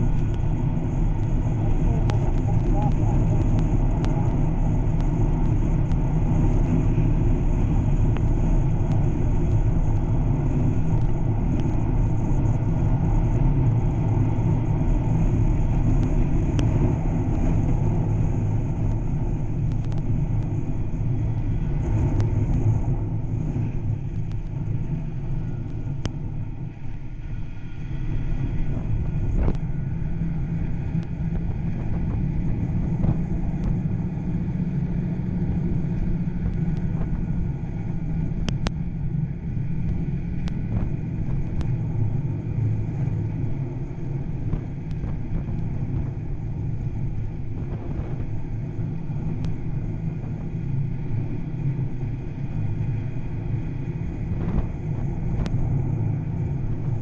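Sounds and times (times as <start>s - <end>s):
snowmobile engine rumbling: 0.0s - 57.0s.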